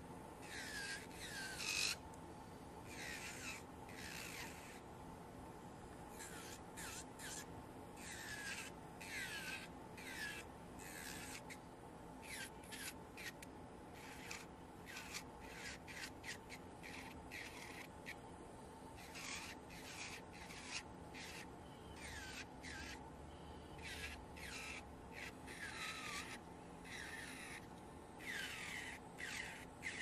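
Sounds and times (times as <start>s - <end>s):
nail drill grinding strokes: 0.4s - 2.0s, 2.9s - 4.8s, 6.1s - 11.6s, 12.2s - 18.2s, 19.0s - 23.0s, 23.7s - 30.0s.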